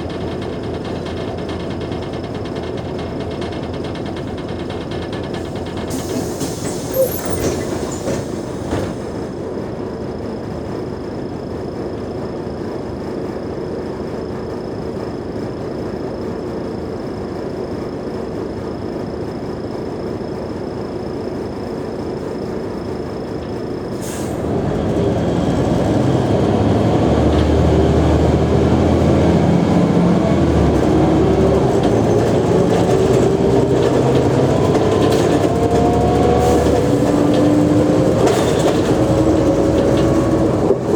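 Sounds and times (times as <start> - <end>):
bus engine accelerating: 0.0 - 13.4, 20.2 - 40.9.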